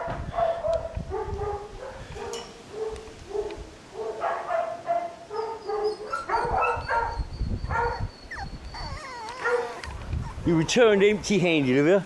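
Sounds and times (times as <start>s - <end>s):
puppies yapping: 1.9s - 11.9s.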